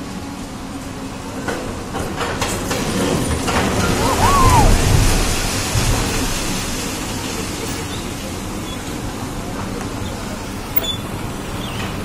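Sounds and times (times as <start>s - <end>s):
excavator engine: 0.0s - 12.0s.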